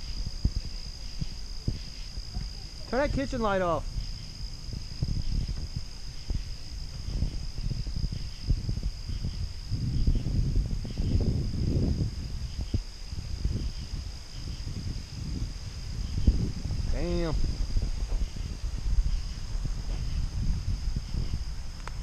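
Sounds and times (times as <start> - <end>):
high-pitched insect chorus: 0.0 - 22.0
wind buffeting microphone: 0.0 - 22.0.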